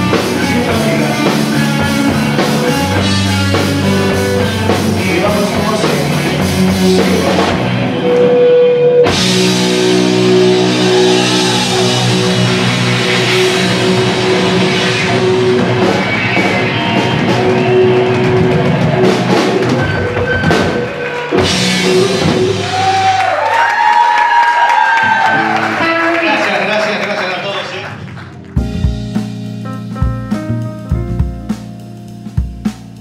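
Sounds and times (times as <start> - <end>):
rock band playing instrumental: 0.0 - 33.0.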